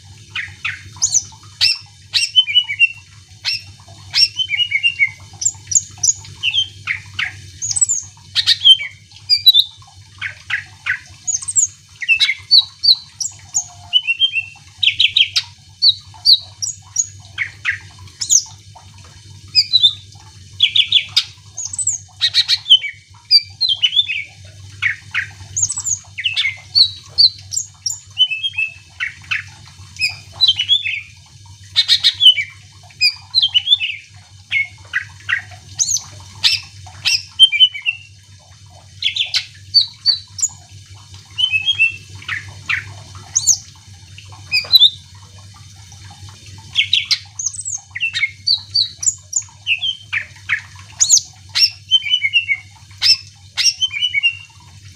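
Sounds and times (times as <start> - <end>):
bird singing: 0.4 - 18.5, 19.6 - 20.0, 20.6 - 31.1, 31.8 - 38.1, 41.4 - 43.6, 46.8 - 54.5.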